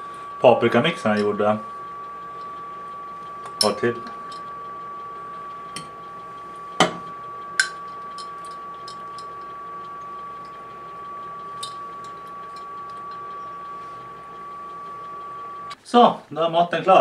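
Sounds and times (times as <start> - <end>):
high-pitched hum: 0.0 - 15.8.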